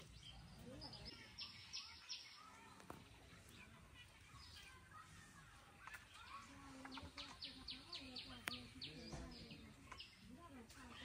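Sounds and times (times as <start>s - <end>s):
faint bird chirps and calls: 0.0s - 11.0s.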